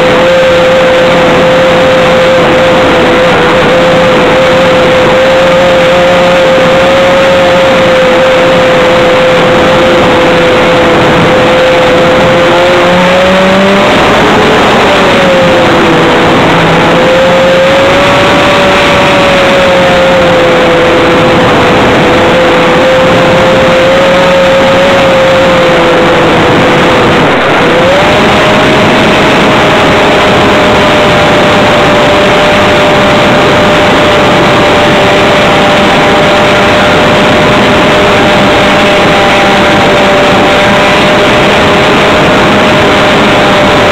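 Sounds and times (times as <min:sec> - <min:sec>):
model airplane motor whine: 0:00.0 - 0:43.9
rush of air: 0:00.0 - 0:43.9.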